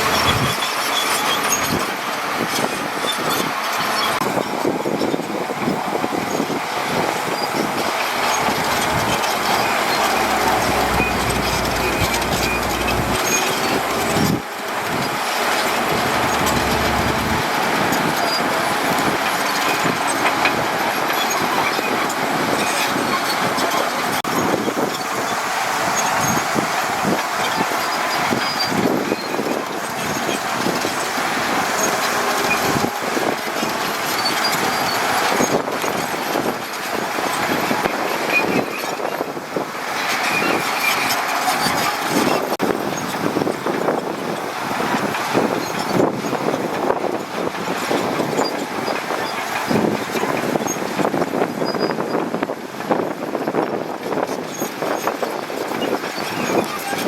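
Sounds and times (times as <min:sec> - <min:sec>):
heavy diesel machinery din: 0:00.0 - 0:02.7, 0:03.4 - 0:51.6.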